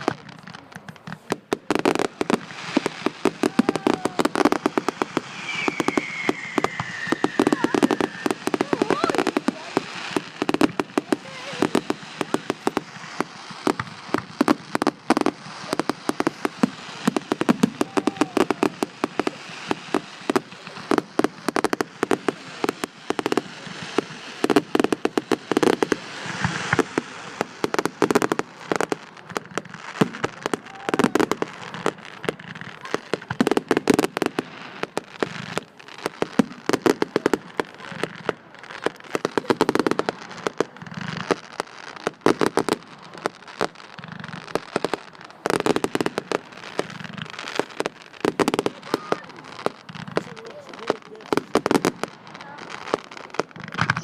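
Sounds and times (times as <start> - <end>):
fireworks banging and crackling: 0.0 - 54.0.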